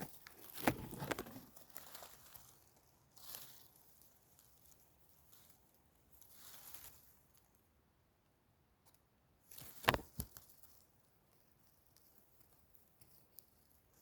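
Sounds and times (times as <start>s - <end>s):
crunching in dry leaves: 0.0s - 7.6s, 9.4s - 14.0s.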